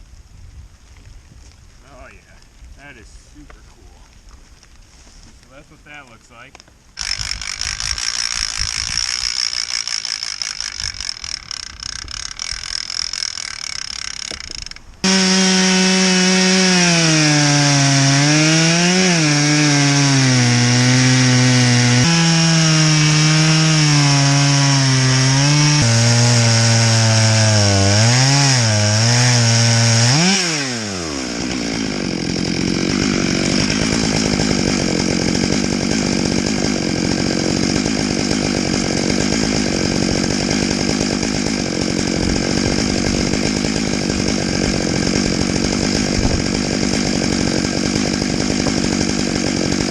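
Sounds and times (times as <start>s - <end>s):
chainsaw cutting log: 7.0s - 49.9s.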